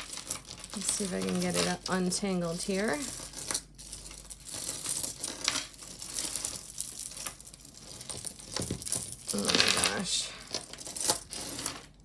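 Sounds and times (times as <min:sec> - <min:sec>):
jewelry beads and chains clicking: 0:00.0 - 0:12.0
rustling: 0:00.0 - 0:12.0.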